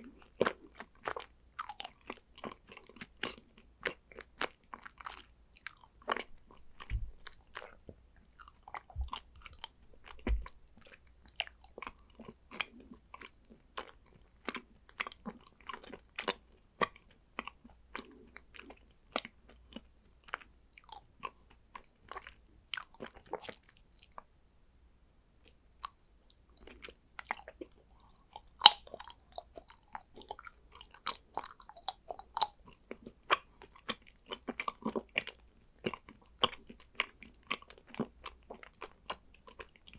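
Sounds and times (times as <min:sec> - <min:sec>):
chewing and crunching chocolate: 0:00.0 - 0:24.3, 0:25.4 - 0:39.9.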